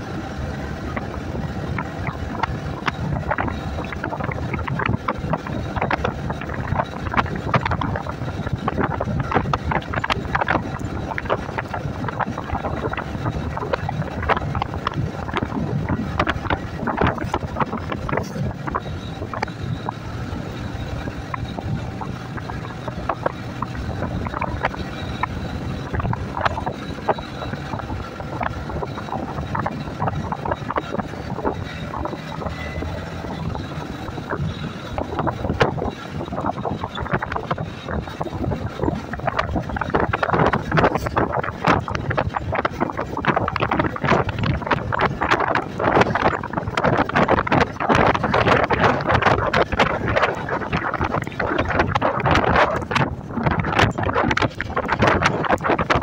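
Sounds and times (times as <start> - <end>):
motorcycle running: 0.0 - 56.0
road noise: 0.0 - 56.0
wind buffeting microphone: 0.0 - 56.0.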